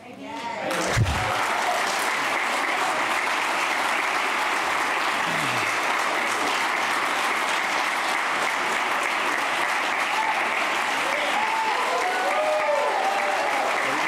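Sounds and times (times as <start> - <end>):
congregation applauding: 0.6 - 14.0.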